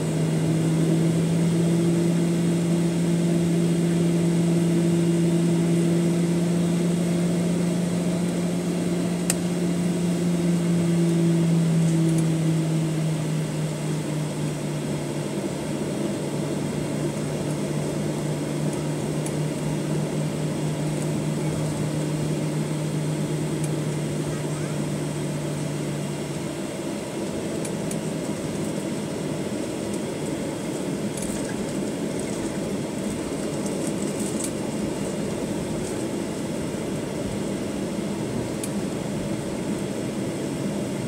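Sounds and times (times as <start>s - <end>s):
airplane cabin drone: 0.0s - 41.0s.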